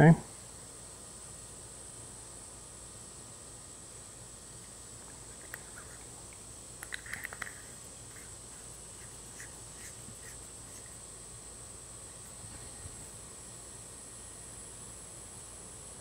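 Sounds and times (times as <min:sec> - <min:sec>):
high-pitched insect drone: 0:01.0 - 0:16.0.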